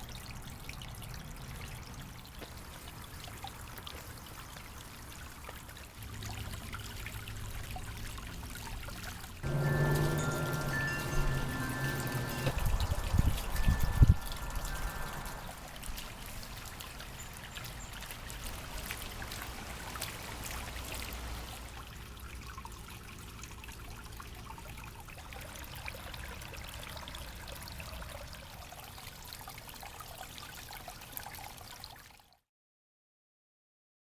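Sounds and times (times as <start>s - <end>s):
water trickling down rocks: 0.0s - 32.4s.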